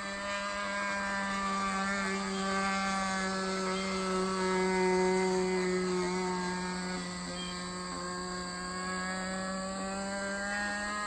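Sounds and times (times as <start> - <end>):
model plane engine droning: 0.0 - 11.0.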